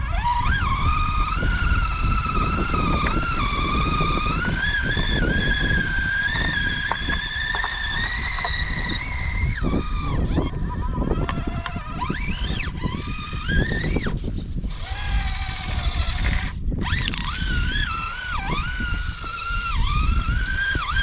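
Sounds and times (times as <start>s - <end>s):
rough rumbling clatter: 0.0s - 21.0s
small electric motor whining: 0.0s - 21.0s.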